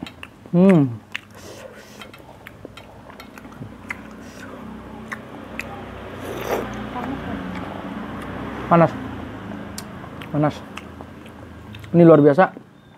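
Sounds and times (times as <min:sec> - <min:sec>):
people chewing: 0:00.0 - 0:08.4, 0:09.7 - 0:12.1
road traffic rumble: 0:00.0 - 0:12.9.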